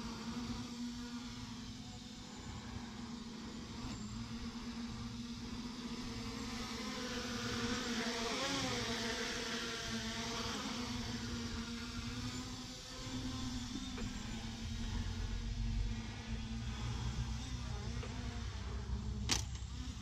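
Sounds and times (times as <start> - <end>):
small engine buzzing: 0.0 - 20.0.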